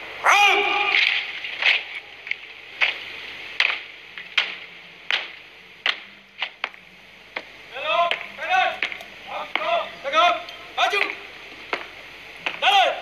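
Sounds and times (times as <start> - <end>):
troops marching in step: 0.3 - 13.0.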